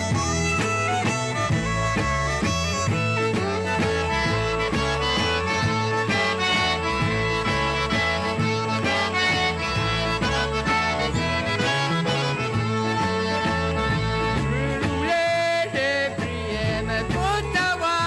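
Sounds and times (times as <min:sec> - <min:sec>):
lively instrumental music: 0:00.0 - 0:18.0.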